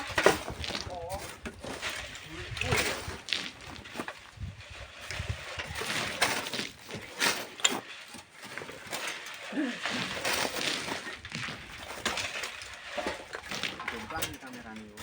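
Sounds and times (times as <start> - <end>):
scraping on sand and stone: 0.0 - 15.0.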